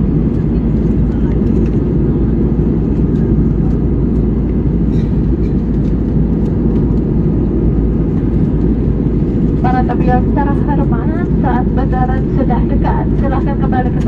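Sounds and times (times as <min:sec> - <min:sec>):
airliner cabin engine drone: 0:00.0 - 0:14.0.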